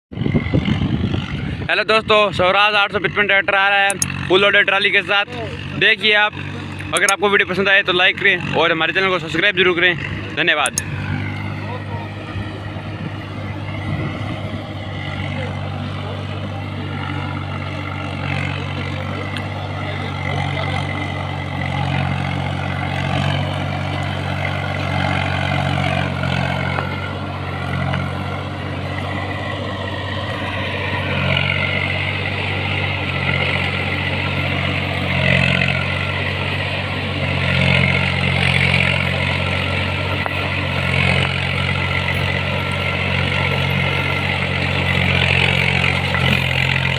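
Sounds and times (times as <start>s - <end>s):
tractor diesel engine running: 0.1s - 46.9s.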